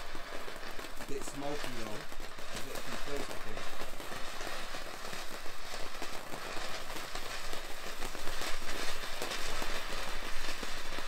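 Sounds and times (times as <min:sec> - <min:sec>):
firework fountain hissing and crackling: 0:00.0 - 0:11.0.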